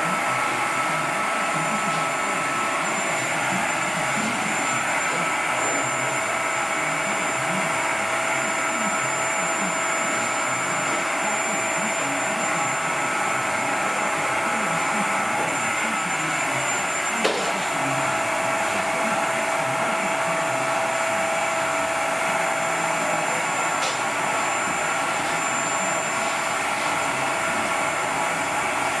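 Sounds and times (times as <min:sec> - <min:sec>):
vacuum cleaner whine: 0:00.0 - 0:29.0.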